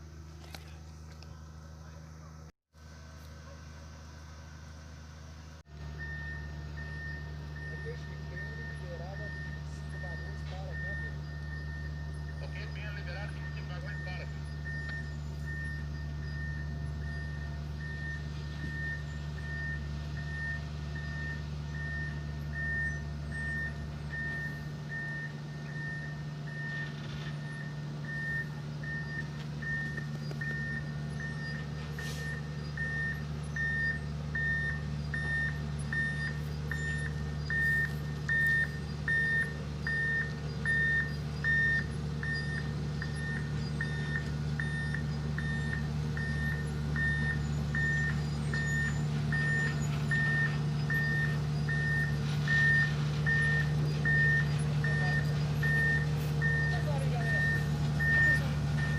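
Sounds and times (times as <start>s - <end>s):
diesel engine running: 0.0s - 58.9s
short high alarm beeps: 5.9s - 58.9s.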